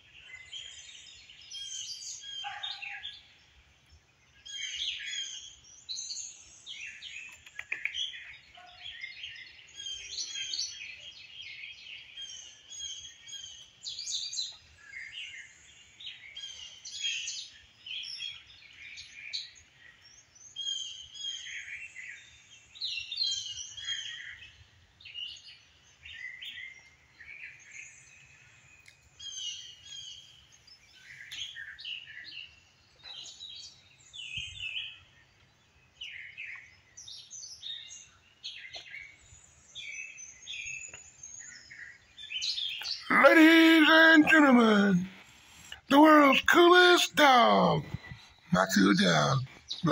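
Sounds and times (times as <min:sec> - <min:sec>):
birds chirping and singing: 0:00.0 - 0:49.9.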